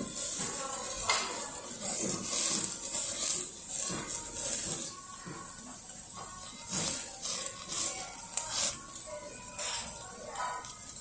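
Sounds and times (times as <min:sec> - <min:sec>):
background music: 0:00.0 - 0:11.0
hissy shaker-like percussion beat: 0:00.0 - 0:11.0.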